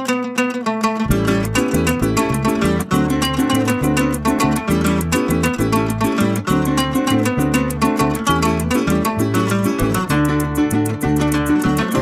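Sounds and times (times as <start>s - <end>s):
plucked strings: 0.0s - 12.0s
bass notes: 1.0s - 12.0s
maracas shaking: 1.1s - 12.0s.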